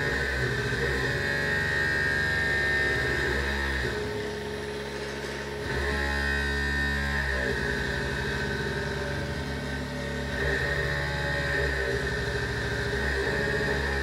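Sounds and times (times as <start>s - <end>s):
vibration motors buzzing: 0.0s - 14.0s.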